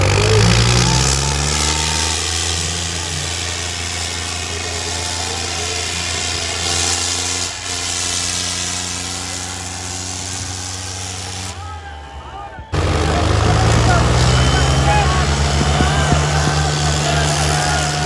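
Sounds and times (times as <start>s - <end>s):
diesel tractor engine under load: 0.0s - 18.0s.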